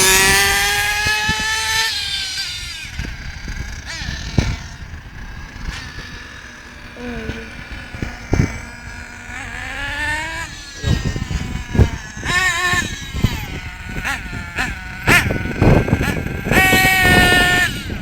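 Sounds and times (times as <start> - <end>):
toy car motor revving: 0.0 - 18.0.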